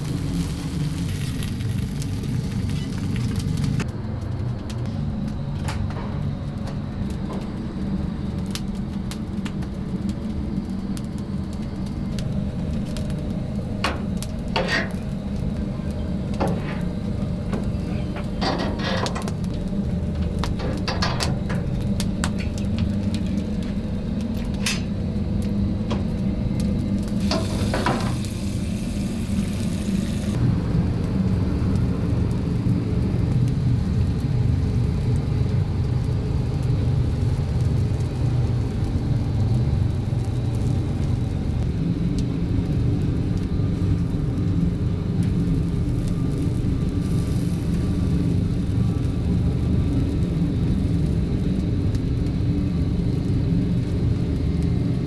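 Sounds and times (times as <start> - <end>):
chicken sizzling: 0.0 - 3.9, 7.0 - 55.0
grill low rumble: 0.0 - 55.0.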